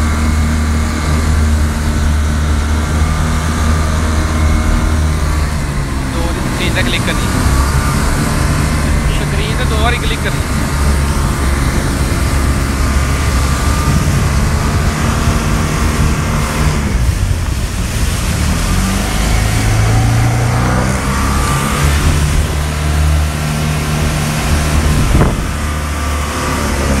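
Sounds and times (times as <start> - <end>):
jet ski engine running: 0.0 - 27.0
rush of wind and water: 0.0 - 27.0.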